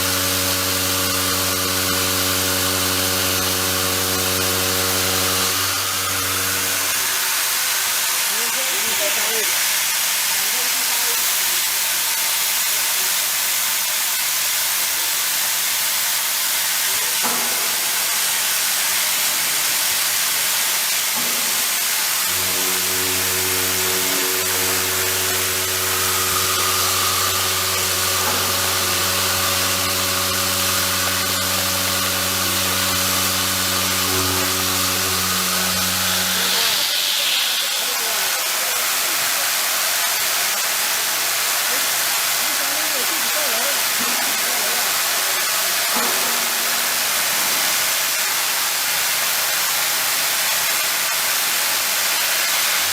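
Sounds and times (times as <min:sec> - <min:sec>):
milling machine hissing: 0:00.0 - 0:52.9.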